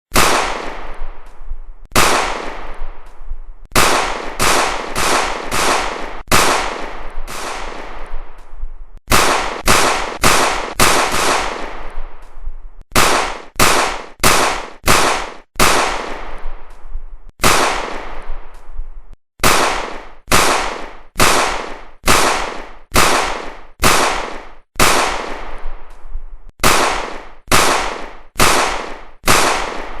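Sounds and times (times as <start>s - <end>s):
gunshots with ringing tail: 0.1s - 12.2s, 12.9s - 16.7s, 17.4s - 18.6s, 19.4s - 25.8s, 26.6s - 30.0s.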